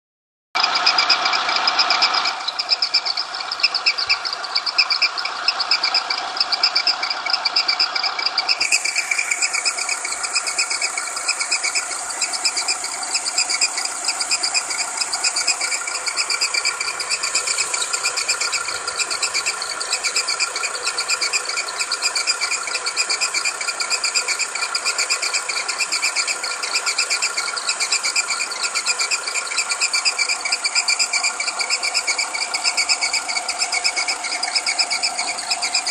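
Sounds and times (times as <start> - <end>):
fast mechanical ticking: 0.6 - 35.9
petrol engine running: 0.6 - 35.9
high whistle from timing drive: 0.7 - 35.9.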